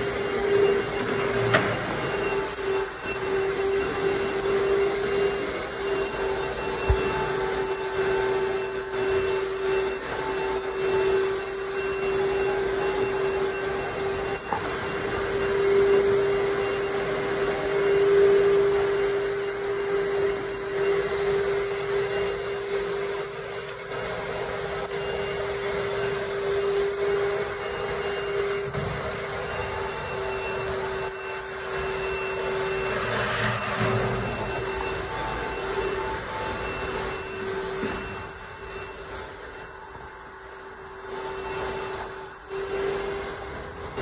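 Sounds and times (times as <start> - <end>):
pressure washer whine: 0.0 - 44.0.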